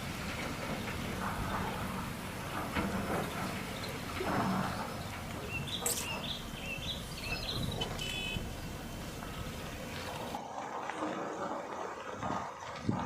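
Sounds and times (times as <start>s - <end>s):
construction machinery rumbling: 0.0s - 13.0s.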